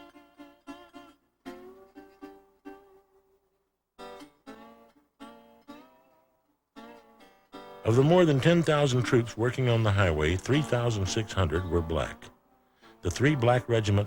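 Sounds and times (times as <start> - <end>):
plucked guitar notes: 0.0 - 3.4, 4.0 - 12.4.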